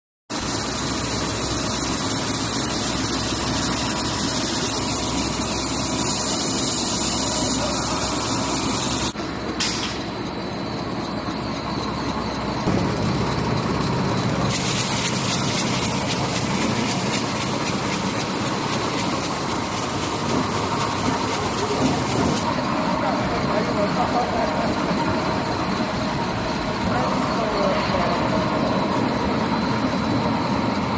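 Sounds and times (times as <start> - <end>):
machinery drone with hiss: 0.3 - 30.9.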